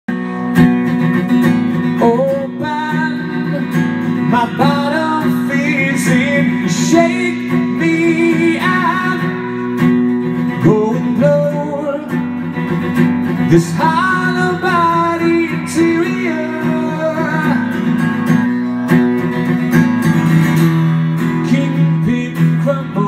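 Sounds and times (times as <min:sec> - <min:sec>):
acoustic guitar strumming: 0:00.1 - 0:23.0
man singing: 0:01.8 - 0:12.6, 0:13.3 - 0:19.6, 0:21.1 - 0:23.0.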